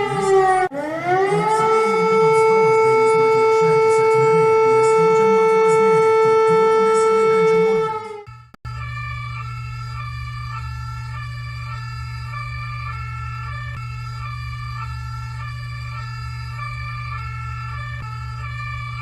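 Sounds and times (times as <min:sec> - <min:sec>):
civil defense siren: 0:00.0 - 0:19.0.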